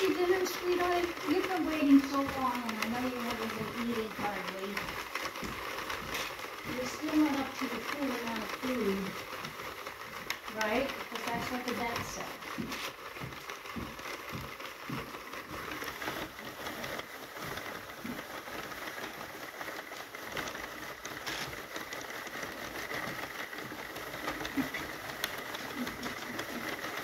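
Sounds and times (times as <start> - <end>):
knitting machine clicking: 0.0 - 27.0.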